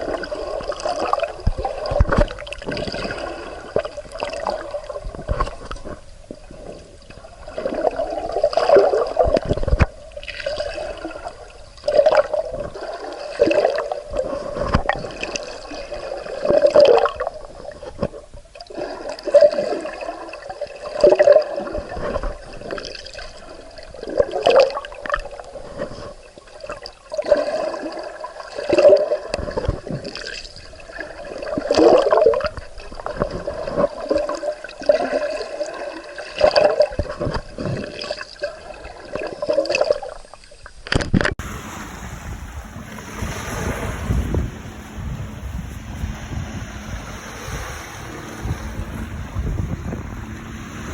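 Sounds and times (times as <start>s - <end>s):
water gurgling and sloshing: 0.0s - 50.9s.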